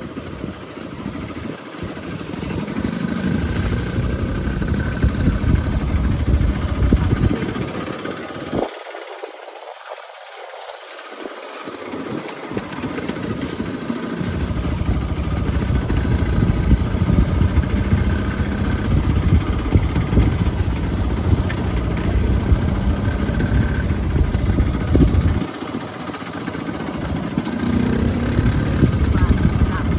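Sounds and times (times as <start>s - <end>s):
motorcycle engine running: 0.0s - 8.8s, 11.8s - 29.9s.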